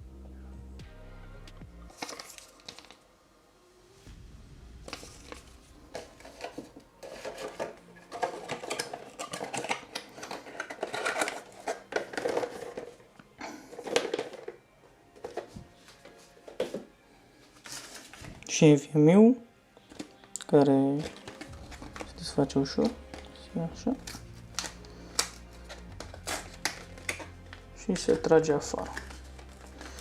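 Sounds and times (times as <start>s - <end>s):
plastic and cardboard packaging rustling: 1.9s - 3.2s, 4.8s - 18.7s, 19.8s - 30.0s.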